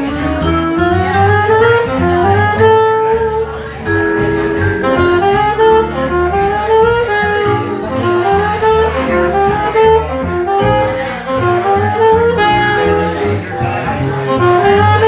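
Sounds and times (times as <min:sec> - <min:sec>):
instrumental jazz: 0:00.0 - 0:15.0.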